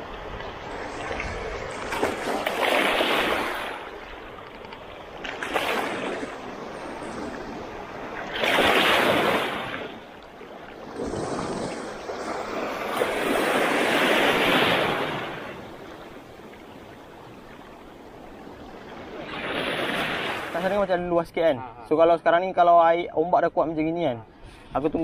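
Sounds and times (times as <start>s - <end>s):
sea waves breaking on rocks: 0.0s - 20.7s.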